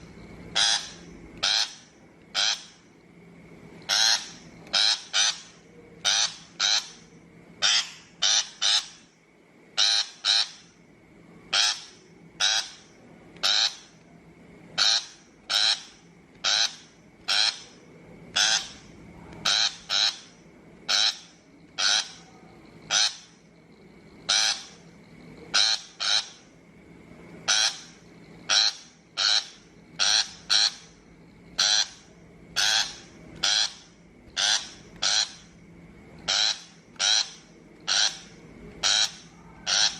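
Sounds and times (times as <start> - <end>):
shrike harsh chattering calls: 0.5 - 2.9, 3.8 - 9.2, 9.8 - 10.8, 11.5 - 14.0, 14.8 - 23.4, 24.2 - 24.9, 25.5 - 26.5, 27.4 - 35.6, 36.2 - 39.9.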